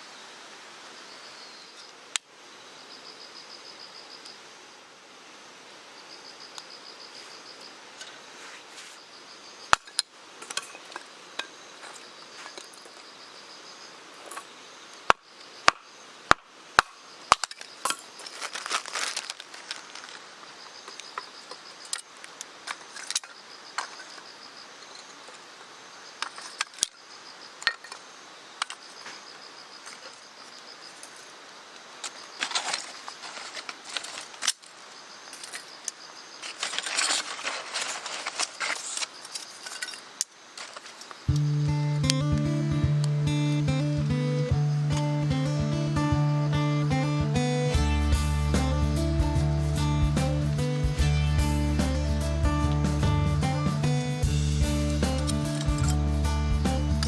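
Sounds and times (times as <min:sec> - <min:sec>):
insects trilling: 0:00.0 - 0:04.8, 0:05.5 - 0:57.0
outdoor background noise: 0:00.0 - 0:57.0.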